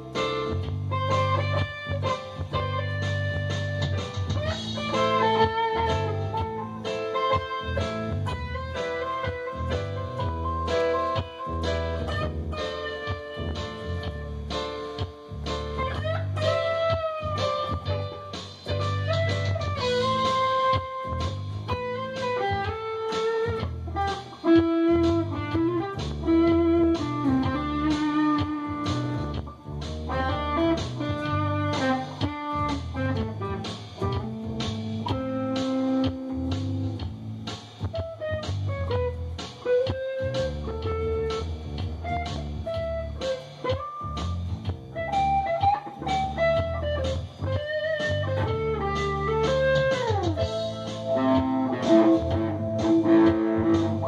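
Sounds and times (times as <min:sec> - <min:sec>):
continuous bass: 0:00.0 - 0:54.0
electric guitar melody: 0:00.0 - 0:54.0
keyboard: 0:00.0 - 0:54.0
repeating beat: 0:01.0 - 0:54.0.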